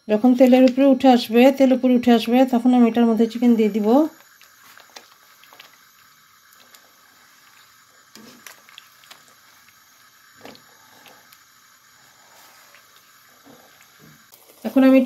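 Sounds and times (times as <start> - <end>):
paste sizzling and bubbling: 0.2 - 15.0.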